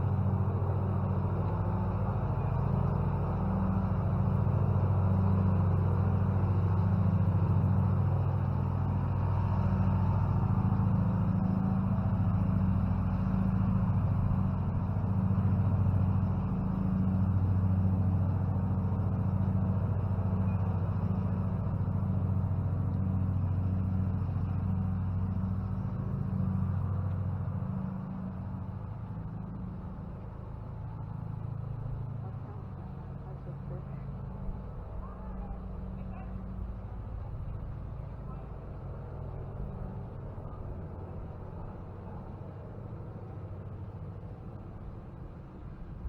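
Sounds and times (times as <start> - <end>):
low rumbling drone: 0.0 - 46.0.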